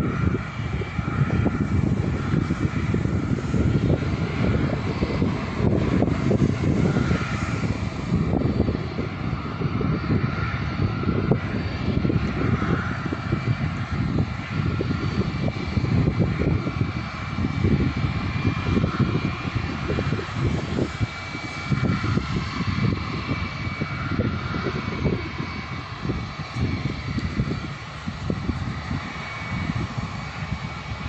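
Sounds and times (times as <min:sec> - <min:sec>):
airliner engines running: 0:00.0 - 0:31.0
wind buffeting microphone: 0:00.0 - 0:31.0.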